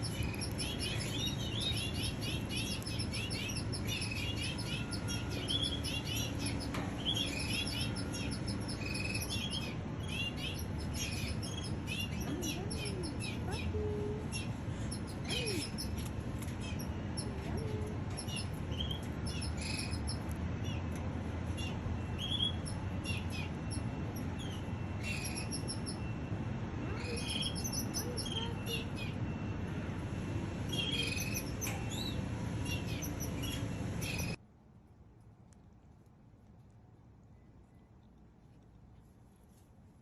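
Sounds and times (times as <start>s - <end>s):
birds chirping: 0.0s - 34.4s.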